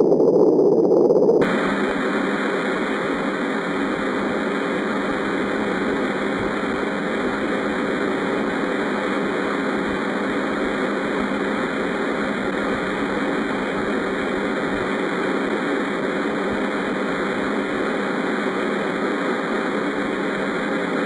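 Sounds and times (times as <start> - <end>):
electronic ambient drone: 0.0 - 21.0.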